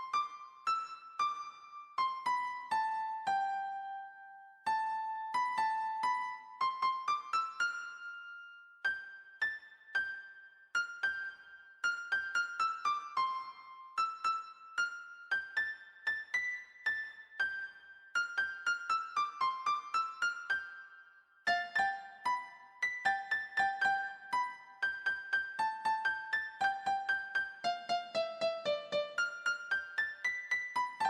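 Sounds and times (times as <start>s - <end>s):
slow piano-like keyboard melody: 0.0s - 31.0s.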